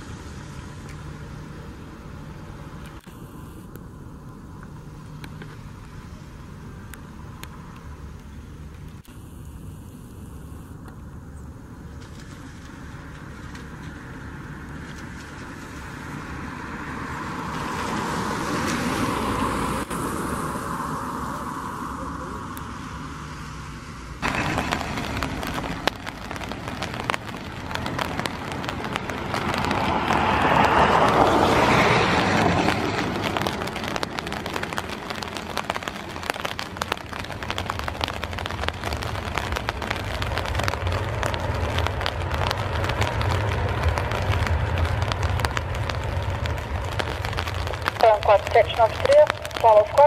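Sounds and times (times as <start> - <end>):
airliner jet engines: 0.0 - 50.0
rain drops ticking: 0.0 - 50.0.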